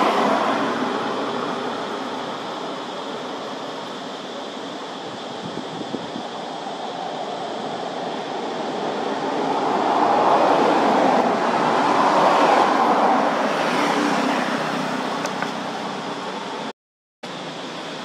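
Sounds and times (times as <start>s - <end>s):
loud rushing noise: 0.0s - 16.6s.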